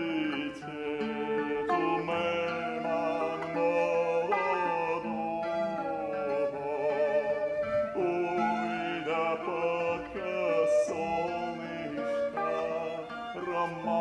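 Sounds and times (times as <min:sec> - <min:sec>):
acoustic guitar accompaniment: 0:00.0 - 0:14.0
violin melody with vibrato: 0:00.0 - 0:14.0.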